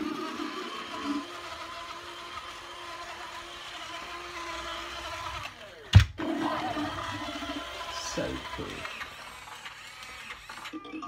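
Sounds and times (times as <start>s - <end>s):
toy motor whirring: 0.0s - 11.0s.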